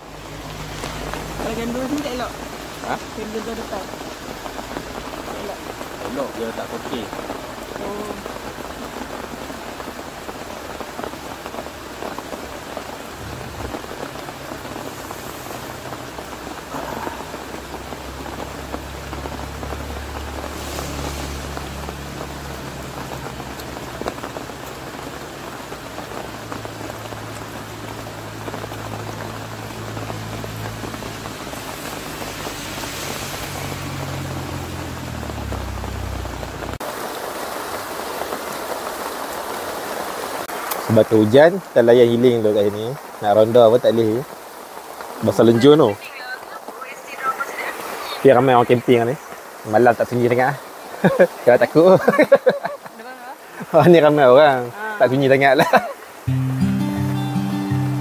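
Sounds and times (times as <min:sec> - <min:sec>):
rain pattering on fabric canopy: 0:00.0 - 0:58.0.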